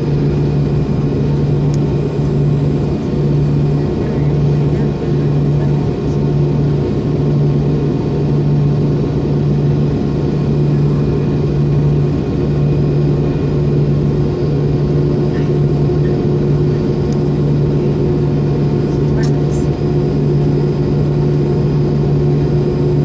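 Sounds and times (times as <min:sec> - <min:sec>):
jet engines droning in cabin: 0:00.0 - 0:23.0.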